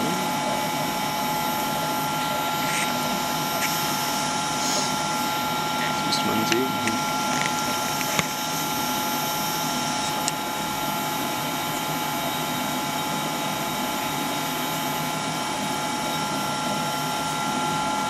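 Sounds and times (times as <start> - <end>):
lab equipment whirring: 0.0 - 18.0.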